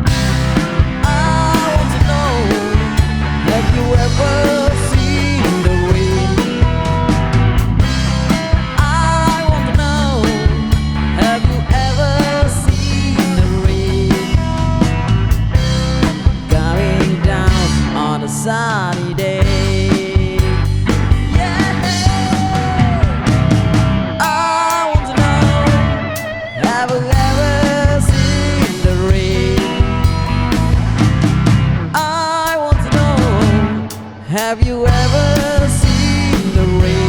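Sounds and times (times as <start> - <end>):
bass guitar: 0.0 - 37.0
electric lead guitar melody: 0.0 - 37.0
steady drum beat: 0.0 - 37.0.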